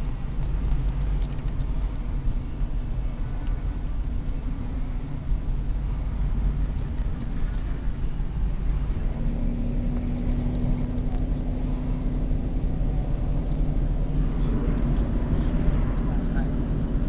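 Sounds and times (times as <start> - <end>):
car engine and road rumble: 0.0 - 17.0
steady hum: 0.0 - 17.0.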